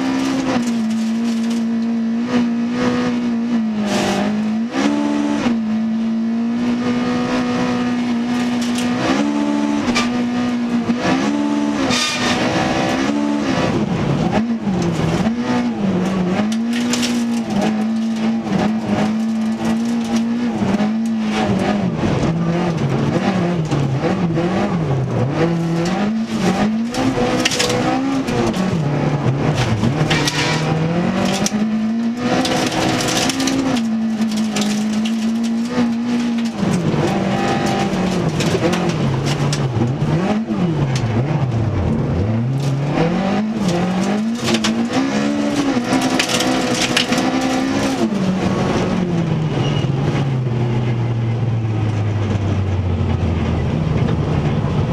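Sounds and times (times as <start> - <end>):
car engine at high revs: 0.0 - 54.9.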